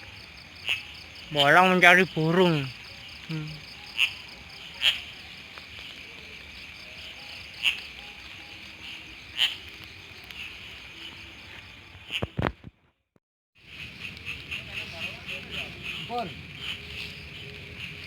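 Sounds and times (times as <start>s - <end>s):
crickets chirring: 0.0s - 12.2s, 13.6s - 18.0s.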